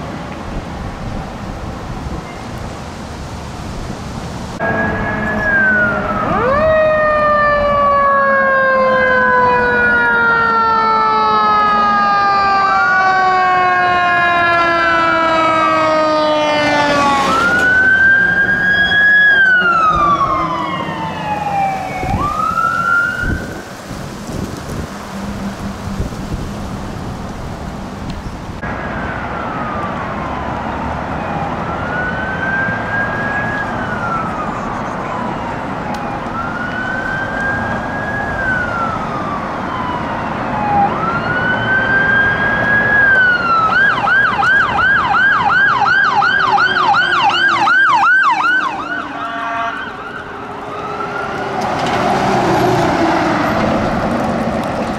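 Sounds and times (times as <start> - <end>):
fire engine sirens wailing: 3.6 - 54.9.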